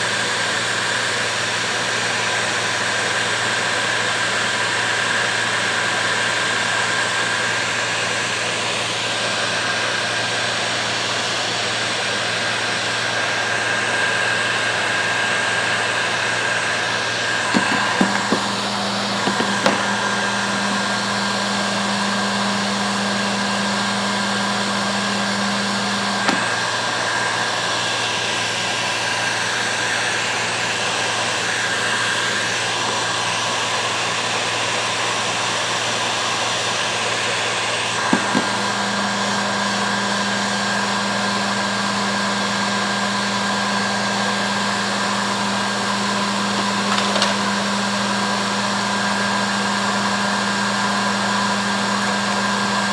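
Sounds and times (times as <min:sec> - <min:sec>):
heat gun blowing: 0:00.0 - 0:52.9.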